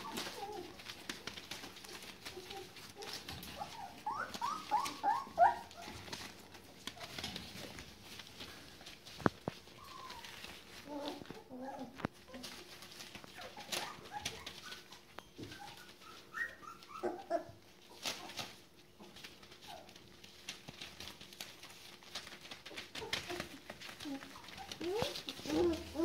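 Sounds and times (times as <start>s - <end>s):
puppies squeaking: 0.0s - 7.8s, 9.4s - 18.5s, 21.6s - 26.0s
paws scratching on newspaper: 0.0s - 26.0s.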